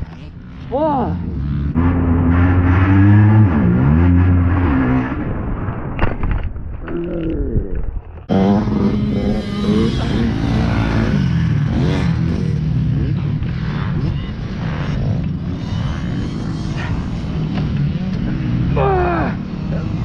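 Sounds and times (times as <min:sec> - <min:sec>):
motorcycle engine revving: 0:00.0 - 0:05.7, 0:08.2 - 0:20.0.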